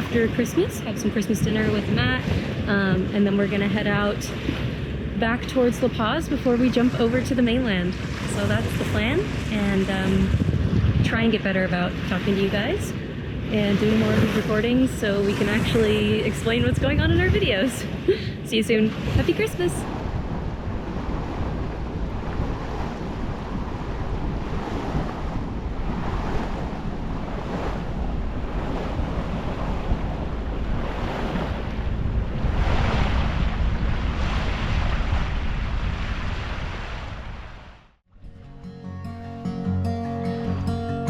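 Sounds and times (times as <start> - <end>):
waves rushing: 0.0 - 37.9
wind buffeting microphone: 0.0 - 37.9.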